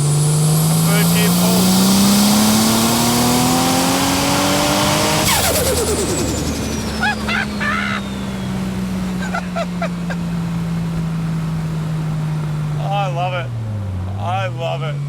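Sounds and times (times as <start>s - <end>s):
turbo car engine accelerating: 0.0s - 15.0s.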